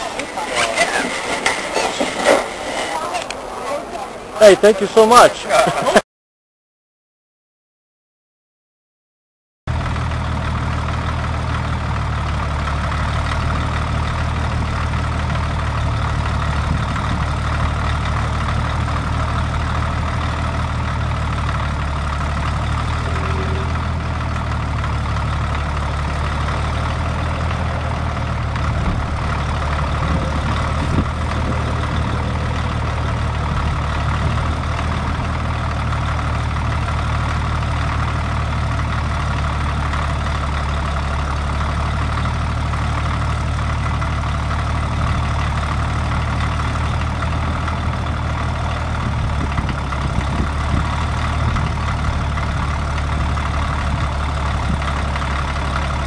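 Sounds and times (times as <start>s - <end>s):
crawler tractor engine running: 0.0s - 6.0s, 9.7s - 56.0s.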